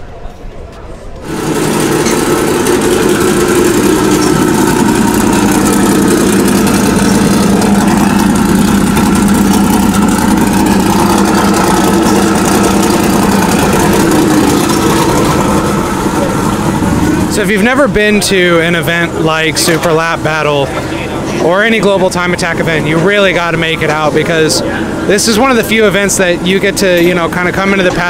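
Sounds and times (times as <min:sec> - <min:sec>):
car engine idling loudly: 0:01.2 - 0:28.0.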